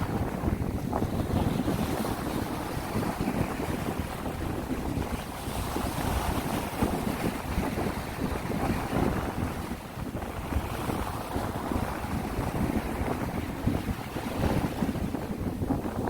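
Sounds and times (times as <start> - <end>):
waves washing onto shore: 0.0 - 16.0
wind buffeting microphone: 0.0 - 16.0.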